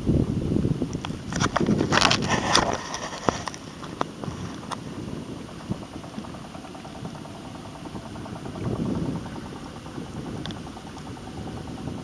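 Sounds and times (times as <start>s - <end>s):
small boat engine running: 0.0s - 12.0s.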